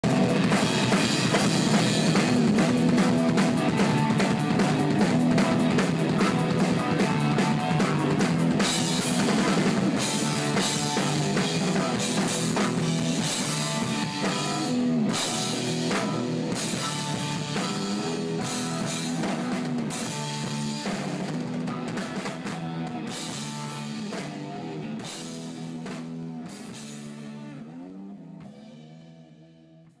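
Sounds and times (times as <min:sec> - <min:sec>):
drum kit played hard: 0:00.0 - 0:29.4
live rock band: 0:00.0 - 0:29.5
electric bass line: 0:00.0 - 0:30.0.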